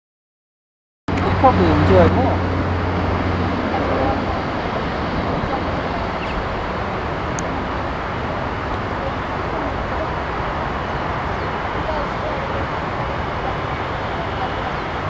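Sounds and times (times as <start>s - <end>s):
distant jet engines roaring: 1.1s - 15.0s
road traffic: 1.1s - 15.0s.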